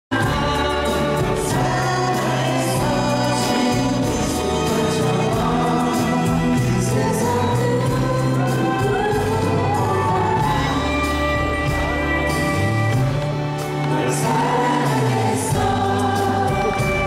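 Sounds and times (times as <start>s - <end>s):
people singing in chorus: 0.1s - 11.1s, 13.7s - 17.0s
band accompaniment: 0.1s - 17.0s
held bass notes: 0.1s - 17.0s.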